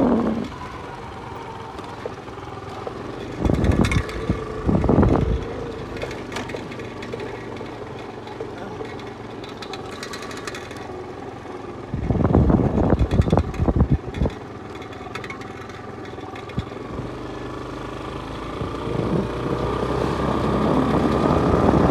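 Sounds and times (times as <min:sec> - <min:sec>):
rough rumbling: 0:00.0 - 0:10.8, 0:11.8 - 0:21.9.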